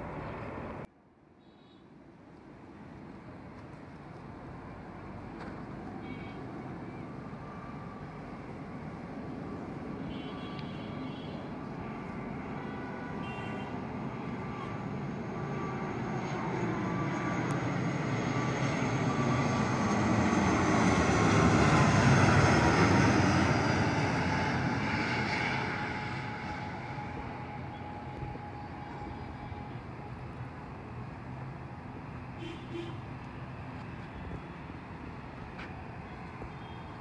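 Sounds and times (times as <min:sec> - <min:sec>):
turboprop aircraft flying low: 0:04.8 - 0:37.0.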